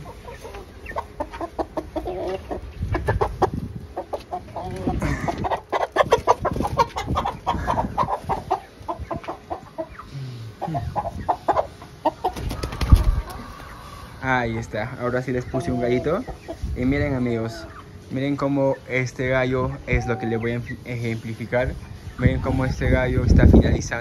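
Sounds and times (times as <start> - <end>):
chickens clucking and squawking: 0.0 - 24.0.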